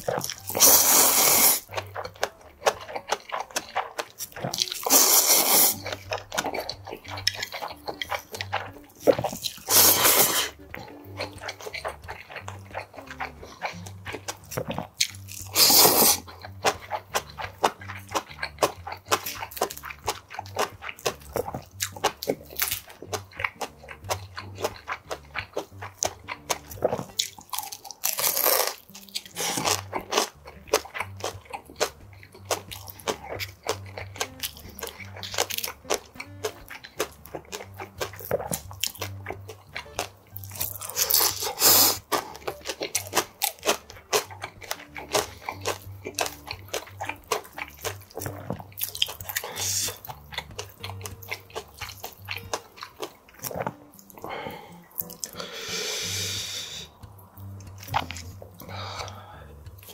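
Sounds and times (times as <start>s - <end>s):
crunchy chewing: 0.0s - 59.9s
soft background music: 0.0s - 59.9s
wet mouth sounds: 0.0s - 59.9s.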